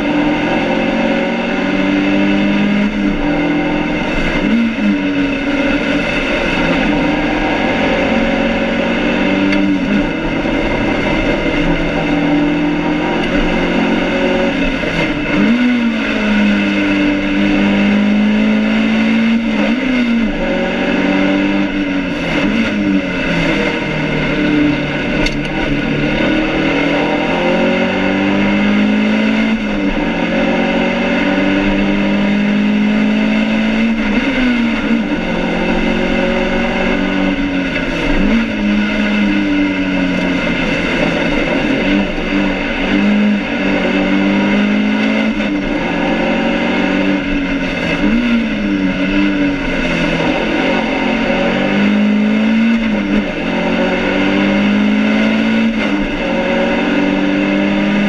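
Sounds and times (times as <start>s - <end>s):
race car engine revving: 0.0s - 58.0s
road and wind noise: 0.0s - 58.0s.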